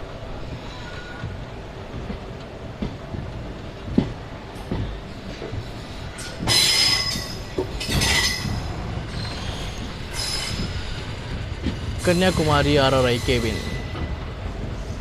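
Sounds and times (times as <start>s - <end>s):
wheels squealing on rails: 0.0s - 2.0s, 4.5s - 15.0s
train coaches rumbling: 0.0s - 15.0s.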